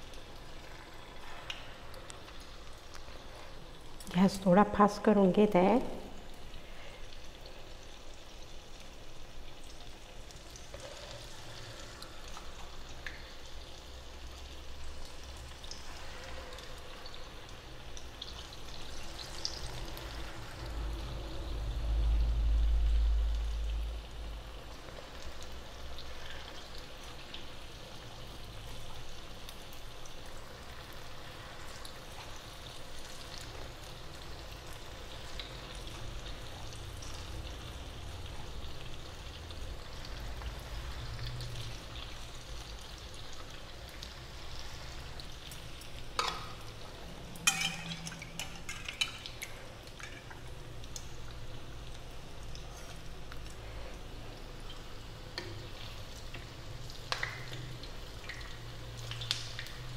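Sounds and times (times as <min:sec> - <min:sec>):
oil sizzling while deep-frying: 0:00.0 - 0:59.9.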